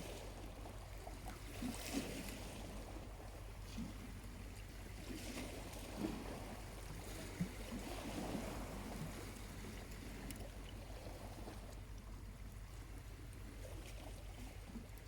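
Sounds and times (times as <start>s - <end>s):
small waves lapping at shore: 0.0s - 15.0s.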